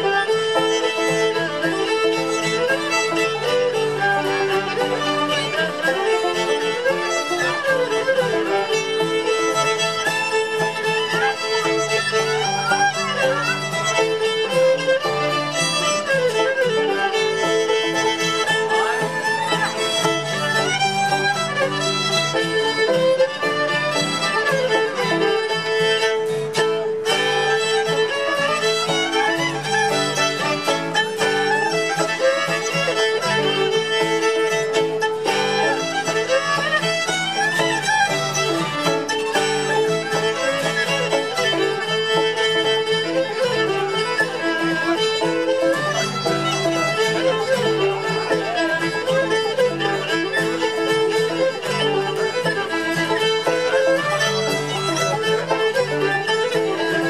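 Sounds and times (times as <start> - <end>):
acoustic guitar: 0.0 - 57.0
banjo: 0.0 - 57.0
fiddles playing: 0.0 - 57.0.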